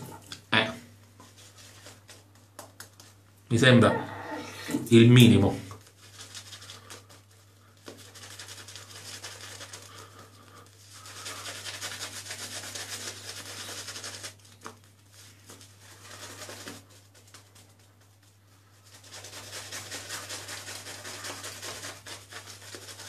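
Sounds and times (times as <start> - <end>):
lather rubbing in beard: 1.2 - 23.0.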